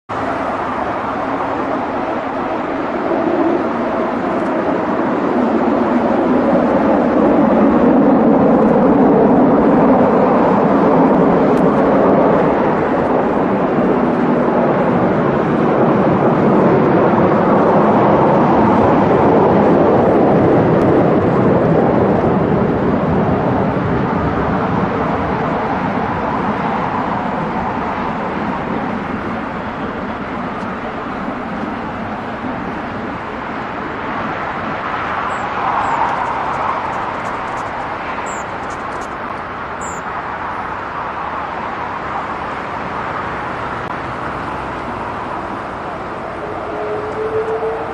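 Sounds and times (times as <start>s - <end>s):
jet engines at takeoff power: 0.1s - 47.9s.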